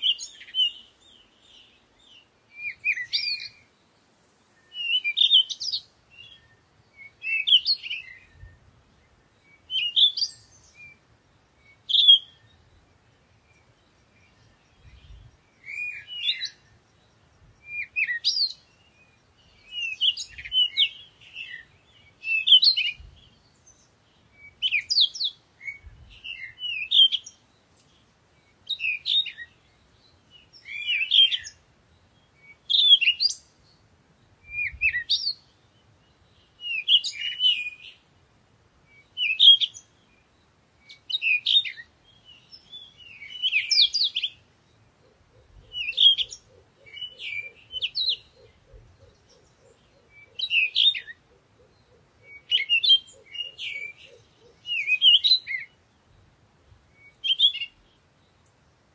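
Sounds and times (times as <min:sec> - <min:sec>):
songbird singing chirpy phrases: 0:00.0 - 0:58.9.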